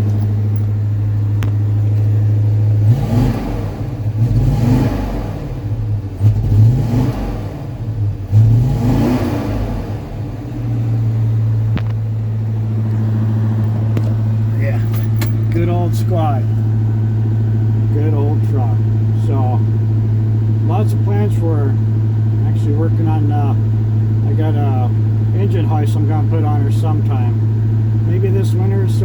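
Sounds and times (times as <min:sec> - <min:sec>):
truck engine idling and revving: 0:00.0 - 0:29.0.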